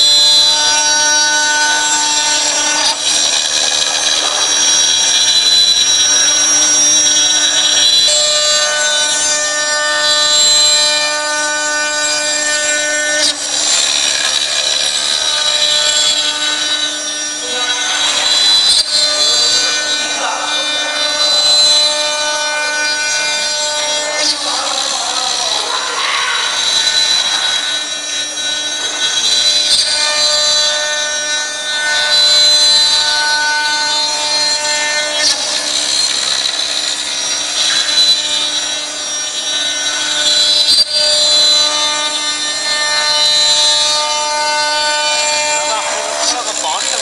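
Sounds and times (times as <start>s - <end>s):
cutter carving wood hiss: 0.0s - 47.0s
router spindle whine: 0.0s - 47.0s.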